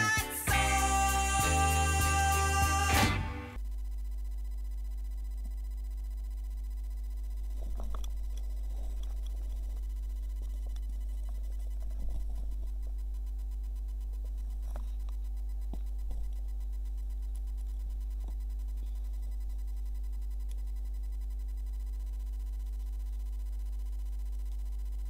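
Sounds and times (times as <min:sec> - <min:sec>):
low electrical hum: 0:03.6 - 0:25.0.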